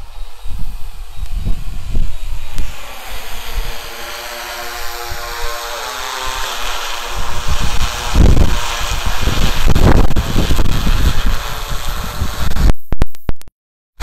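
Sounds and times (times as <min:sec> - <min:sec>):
wind buffeting microphone: 0:00.0 - 0:05.7, 0:06.4 - 0:12.7
drone propellers humming: 0:00.0 - 0:12.7.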